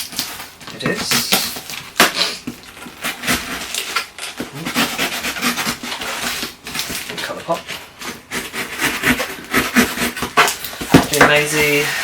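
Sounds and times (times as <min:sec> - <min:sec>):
cardboard box scraping and rustling: 0:00.0 - 0:12.0.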